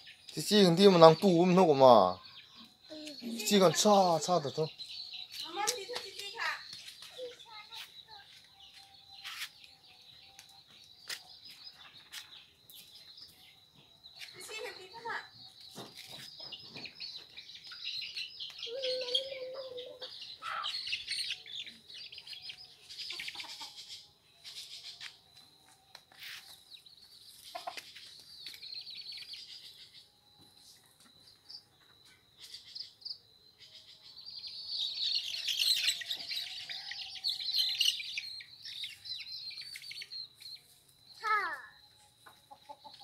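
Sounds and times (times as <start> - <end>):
birds chirping and twittering: 0.0 - 43.0.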